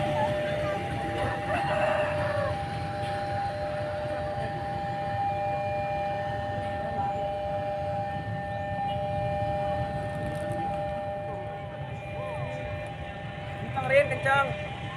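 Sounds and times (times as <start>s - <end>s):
two-note warning siren: 0.0s - 14.9s.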